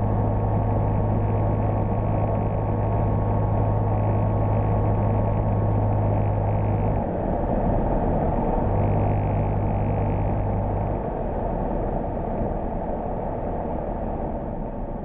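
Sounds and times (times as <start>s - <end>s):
small airplane engine droning: 0.0s - 15.0s.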